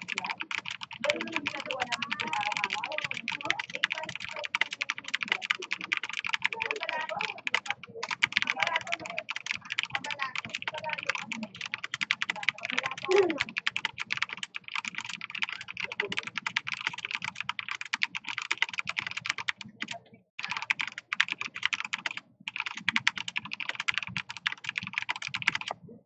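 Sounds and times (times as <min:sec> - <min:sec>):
mechanical keyboard typing: 0:00.0 - 0:25.8.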